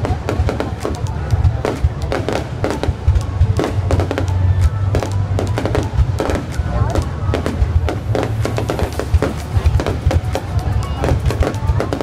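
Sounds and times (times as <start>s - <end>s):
fireworks bangs and crackles: 0.0s - 12.0s
music with heavy bass: 0.0s - 12.0s.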